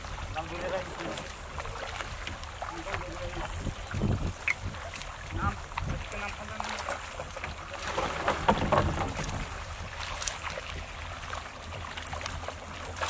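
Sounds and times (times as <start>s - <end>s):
splashes and knocks: 0.0s - 13.0s
water splashing and sloshing: 0.0s - 13.0s.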